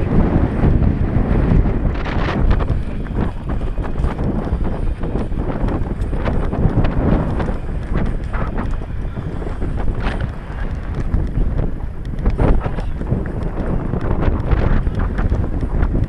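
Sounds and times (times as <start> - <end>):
bike rattling over rough trail: 0.0 - 16.0
wind buffeting microphone: 0.0 - 16.0.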